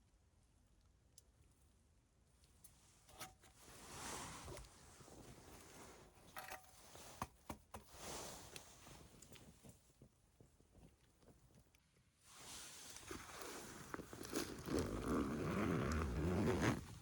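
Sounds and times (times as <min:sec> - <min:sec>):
rustling handling noise: 0:02.7 - 0:17.0.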